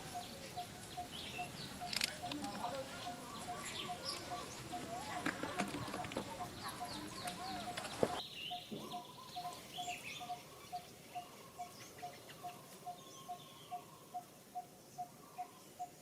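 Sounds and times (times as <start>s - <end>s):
birds chirping: 0.0s - 16.0s
outdoor noise: 0.0s - 16.0s.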